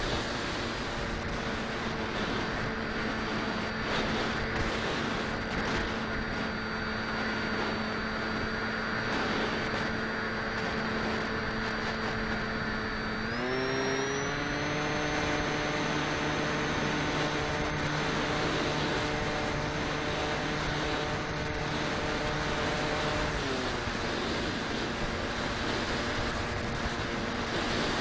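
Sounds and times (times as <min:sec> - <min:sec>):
electric motor and propeller whine: 0:00.0 - 0:28.0
rush of air: 0:00.0 - 0:28.0.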